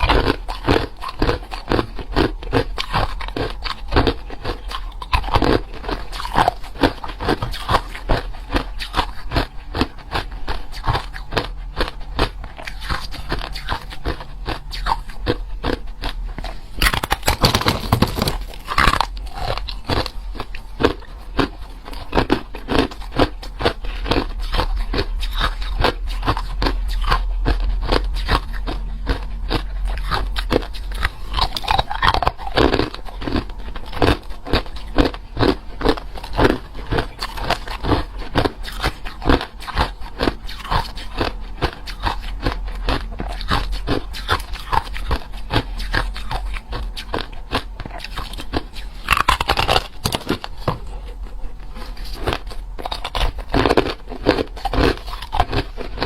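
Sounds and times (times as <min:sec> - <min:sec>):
low hum: 0:00.0 - 0:56.0
person chewing ice: 0:00.0 - 0:56.0.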